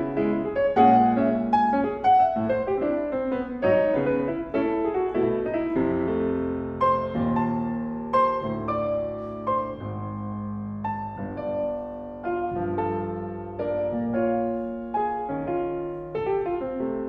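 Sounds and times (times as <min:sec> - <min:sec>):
solo jazz piano: 0:00.0 - 0:17.0.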